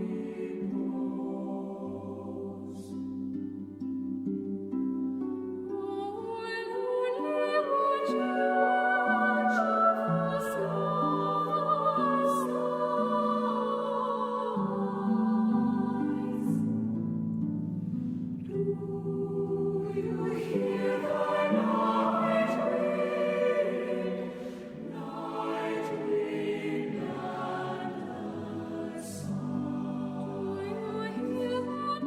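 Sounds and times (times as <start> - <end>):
voices singing in harmony: 0.0 - 3.4, 5.7 - 17.0, 18.0 - 32.0.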